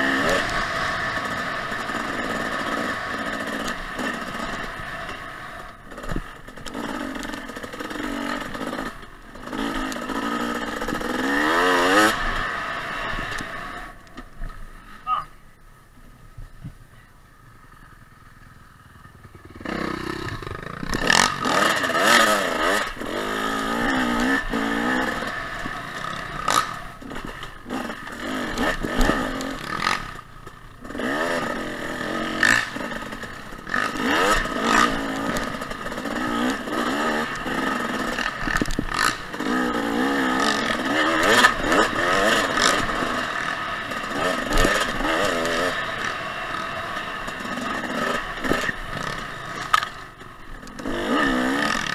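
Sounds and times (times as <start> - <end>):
dirt bike engine revving: 0.0 - 15.2, 17.8 - 51.9.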